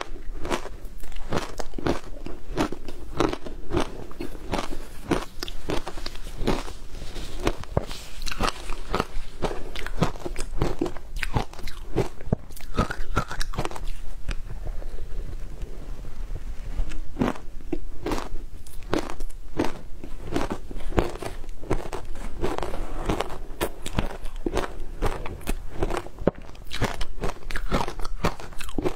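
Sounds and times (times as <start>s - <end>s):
crunching and chewing ice: 0.0s - 14.5s, 16.8s - 28.9s.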